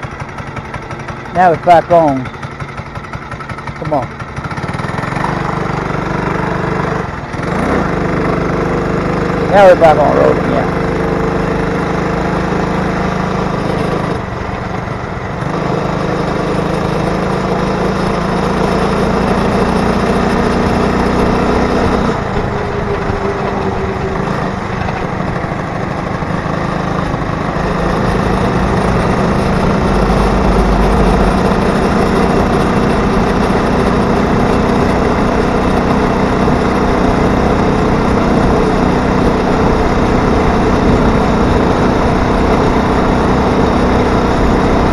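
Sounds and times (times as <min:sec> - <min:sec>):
two-stroke engine running: 0:00.0 - 0:44.9.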